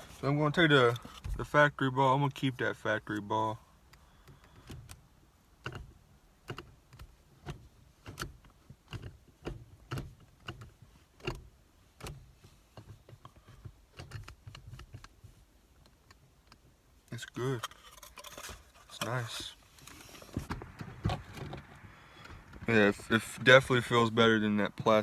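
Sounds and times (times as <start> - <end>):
gear shifter clicks and knocks: 0.2 - 1.6, 3.1 - 24.0.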